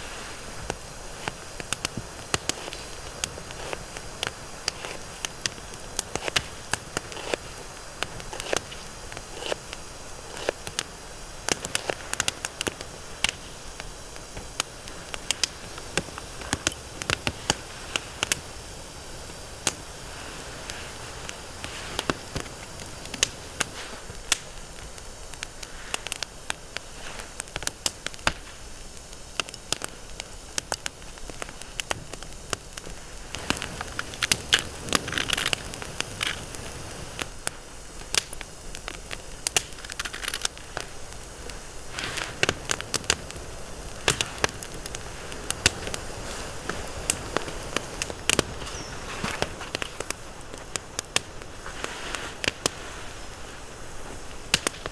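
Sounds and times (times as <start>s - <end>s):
campfire crackling and popping: 0.0s - 54.9s
soft fire hiss: 0.0s - 54.9s.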